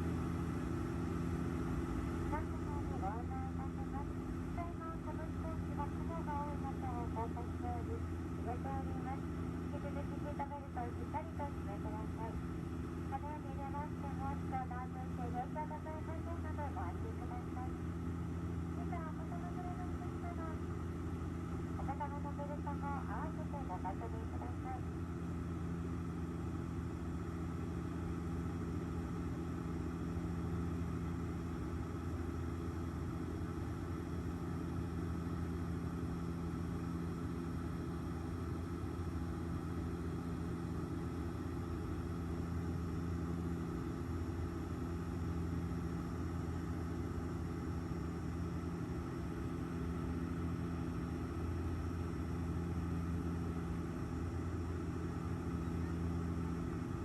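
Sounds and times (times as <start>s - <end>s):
airliner engine and airflow drone: 0.0s - 57.0s
low steady hum: 0.0s - 57.0s.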